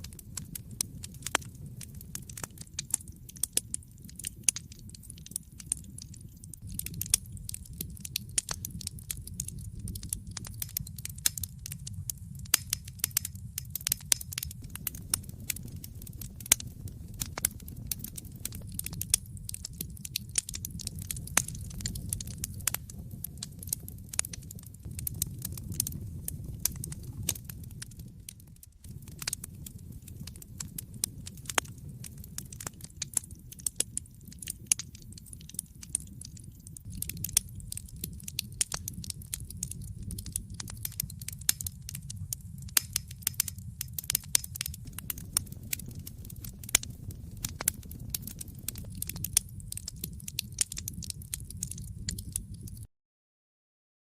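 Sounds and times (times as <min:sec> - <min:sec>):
fireplace fire crackling: 0:00.0 - 0:52.9.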